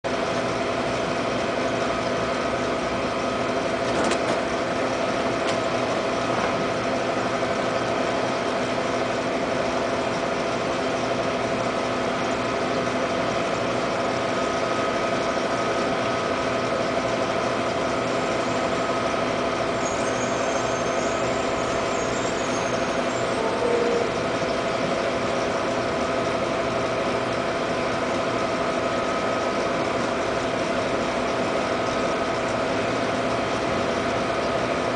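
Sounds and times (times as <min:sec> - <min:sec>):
aquarium pump humming: 0:00.1 - 0:34.9.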